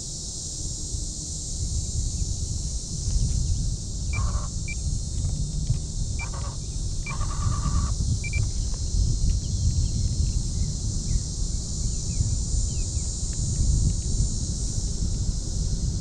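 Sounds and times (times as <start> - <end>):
high insect drone: 0.0 - 16.0
wind on microphone: 1.6 - 16.0.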